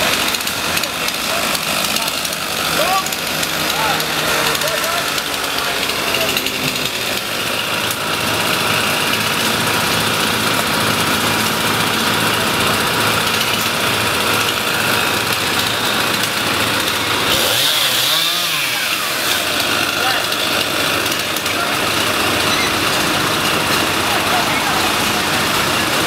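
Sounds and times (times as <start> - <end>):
chainsaw running: 0.0 - 26.0.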